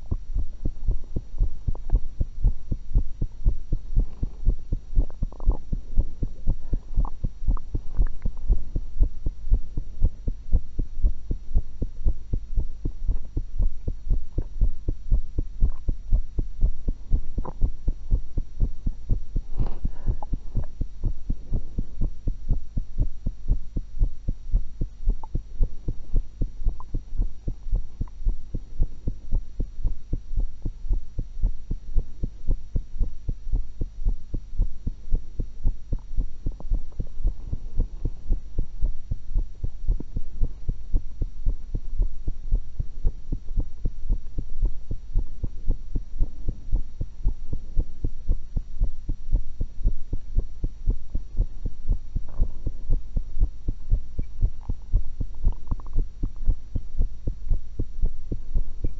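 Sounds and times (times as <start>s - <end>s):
heartbeat thuds: 0.0s - 58.9s.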